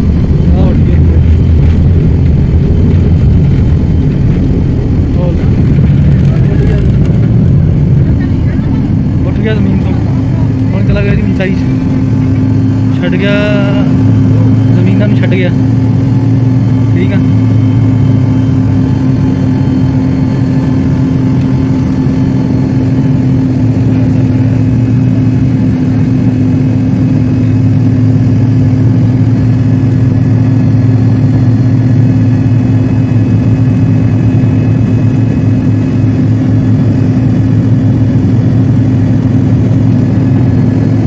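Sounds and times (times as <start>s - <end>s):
jet engine cabin roar: 0.0s - 41.0s
low drone: 0.0s - 41.0s.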